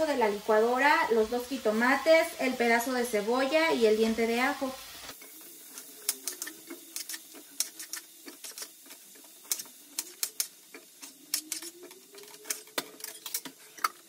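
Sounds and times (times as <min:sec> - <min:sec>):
food frying in hot oil: 0:00.0 - 0:14.0.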